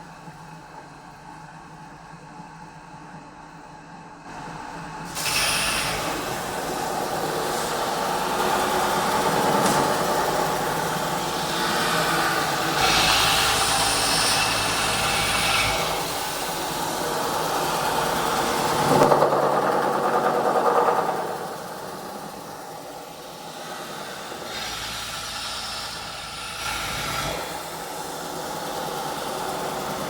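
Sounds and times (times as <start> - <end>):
metal spinning machine running: 4.4 - 30.0.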